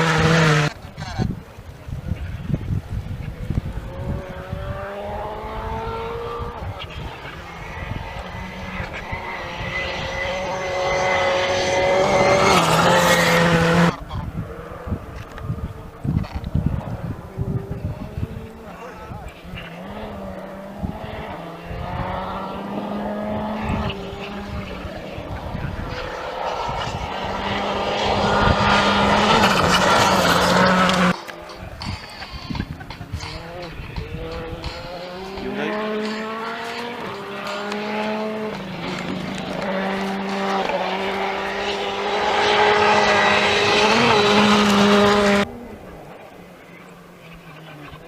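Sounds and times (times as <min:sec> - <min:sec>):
rally car engine at high revs: 0:00.0 - 0:00.8, 0:03.7 - 0:48.0.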